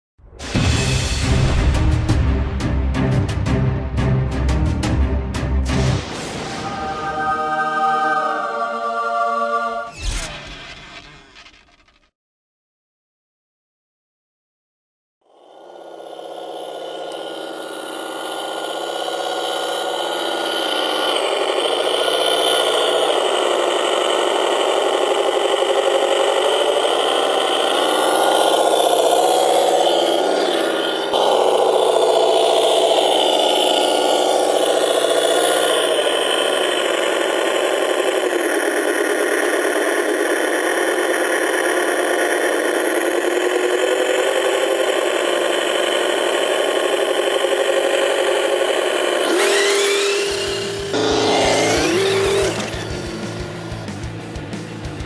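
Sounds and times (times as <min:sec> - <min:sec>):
simulated truck engine: 0:00.7 - 0:12.1, 0:15.2 - 0:55.0.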